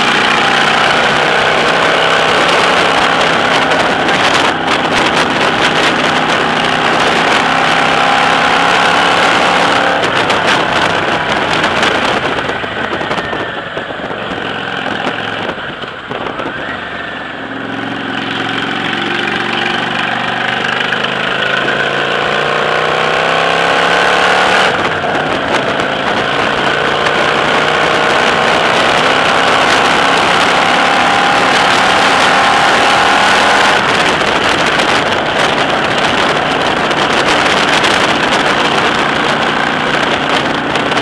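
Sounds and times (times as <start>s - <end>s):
motorcycle engine running: 0.0s - 41.0s
wind buffeting microphone: 0.0s - 41.0s.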